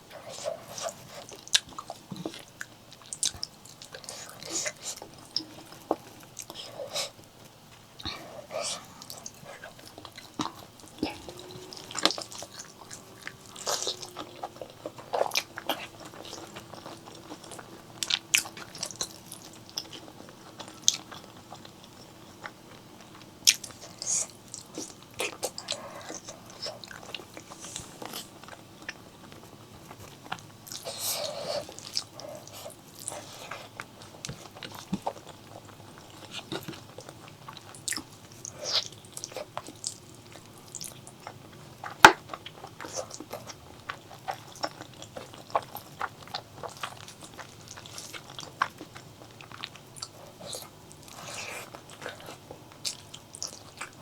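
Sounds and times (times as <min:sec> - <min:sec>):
chewing and biting food: 0:00.0 - 0:54.0.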